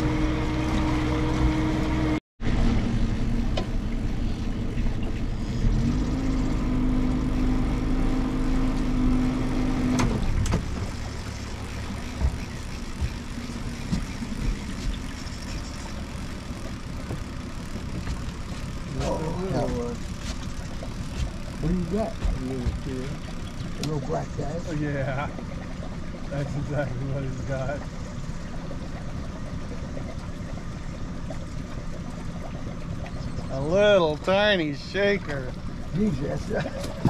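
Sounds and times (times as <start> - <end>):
boat motor running: 0.0 - 37.0.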